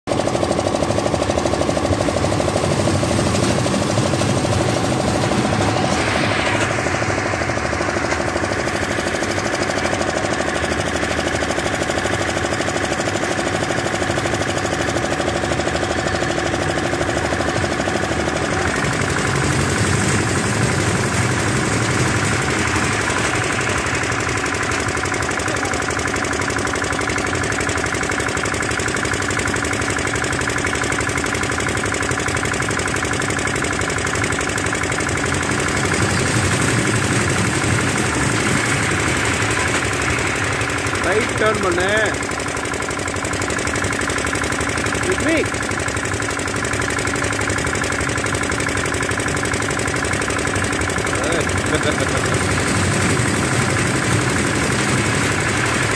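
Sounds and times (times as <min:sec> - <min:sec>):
engine running: 0:00.1 - 0:55.9.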